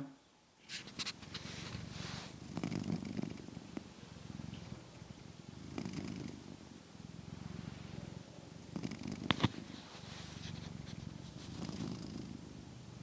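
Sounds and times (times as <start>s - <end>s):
cat purring: 0.7s - 13.0s.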